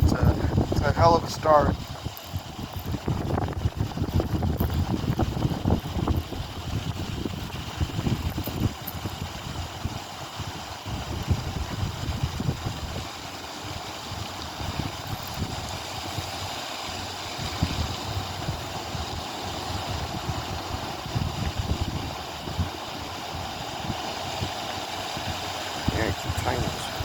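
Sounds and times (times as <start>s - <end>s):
water rushing: 0.0s - 27.0s
wind buffeting microphone: 0.0s - 27.0s.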